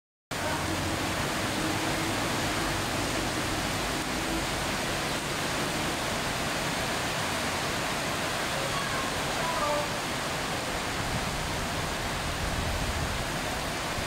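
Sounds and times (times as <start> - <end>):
heavy rain on street and awning: 0.3 - 14.0
traffic on wet road: 0.3 - 14.0.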